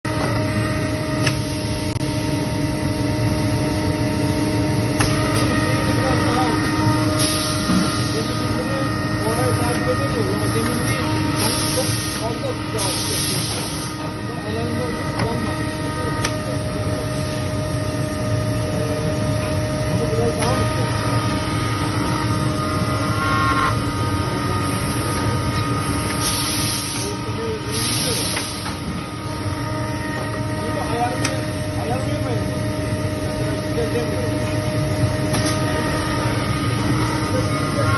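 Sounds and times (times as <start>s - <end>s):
spindle motor humming and whining: 0.1s - 37.9s
steady machine tones: 0.1s - 37.9s.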